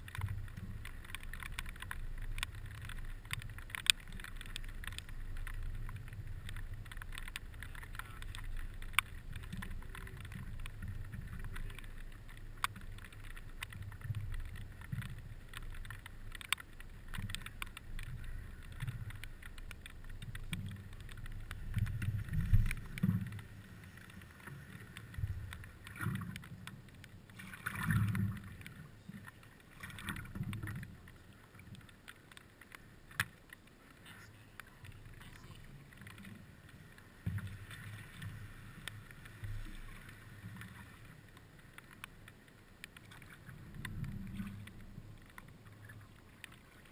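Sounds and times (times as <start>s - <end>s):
water lapping against paddleboard: 0.0s - 46.9s
water swishes: 0.0s - 46.9s.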